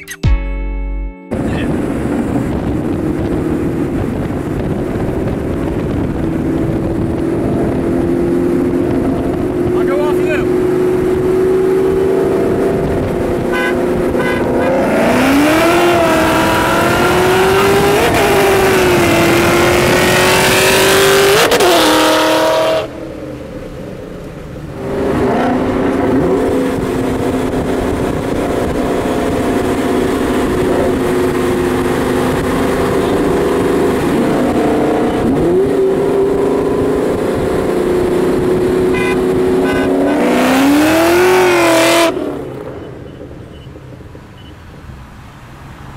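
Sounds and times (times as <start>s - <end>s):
car engines revving: 1.3s - 45.9s.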